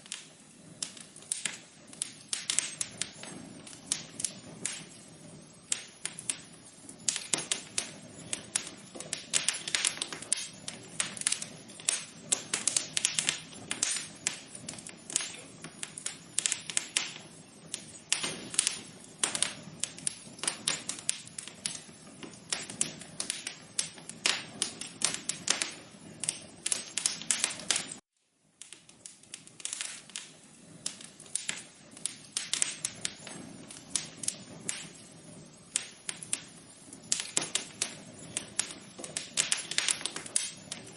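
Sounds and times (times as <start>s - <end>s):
fire crackling and popping: 0.0s - 40.9s
flame rushing: 0.0s - 40.9s.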